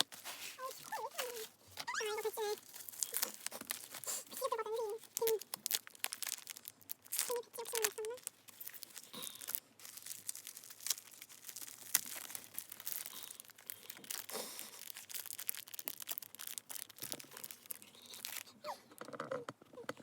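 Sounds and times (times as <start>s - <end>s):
packaging crinkling and rustling: 0.0s - 19.8s.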